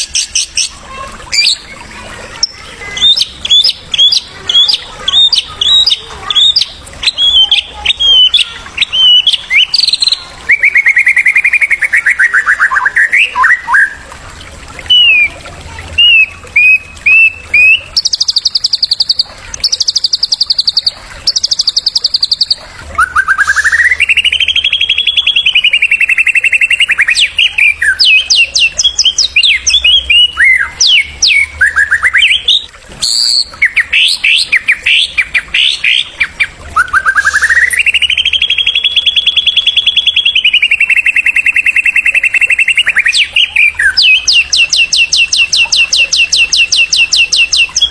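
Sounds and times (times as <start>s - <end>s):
buzzy bird trills: 0.0s - 14.2s, 14.8s - 47.9s
bird singing whistled song: 2.4s - 14.1s, 14.9s - 15.4s, 16.0s - 47.9s.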